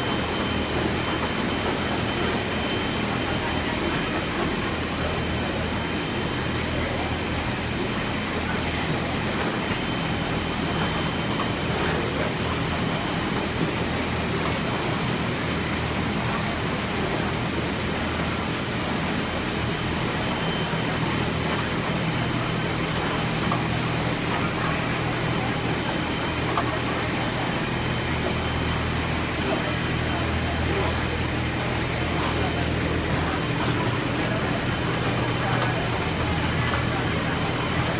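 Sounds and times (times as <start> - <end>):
printing machinery rushing: 0.0 - 37.9.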